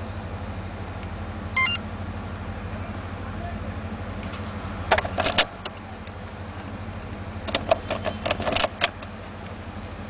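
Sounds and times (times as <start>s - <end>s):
low hum inside car: 0.0s - 10.0s.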